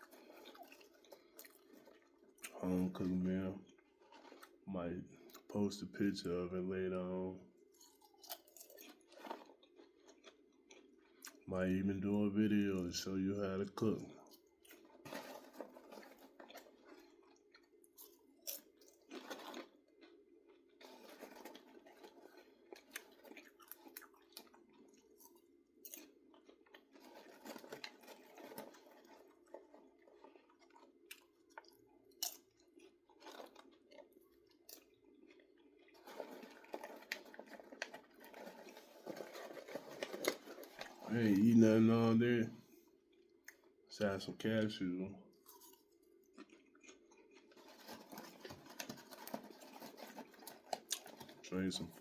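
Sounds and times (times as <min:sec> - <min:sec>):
chewing popcorn: 0:00.0 - 0:52.0.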